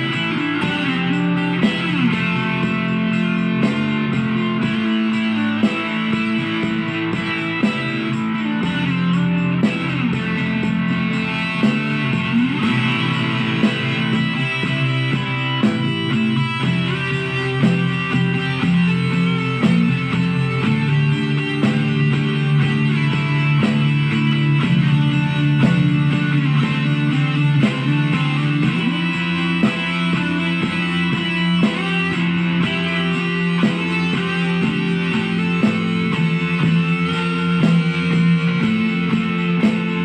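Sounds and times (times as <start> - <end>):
plucked guitar music: 0.0 - 40.0.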